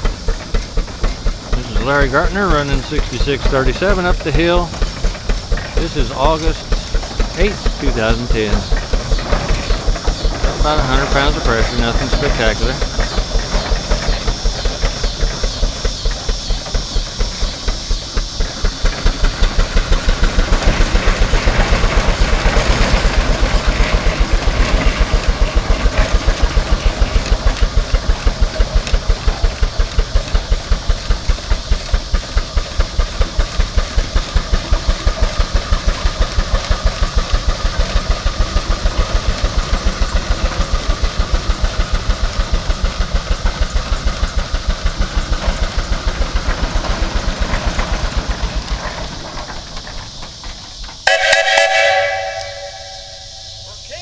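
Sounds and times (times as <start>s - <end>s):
steam engine chuffing: 0.0s - 54.0s
steam hissing: 0.0s - 54.0s.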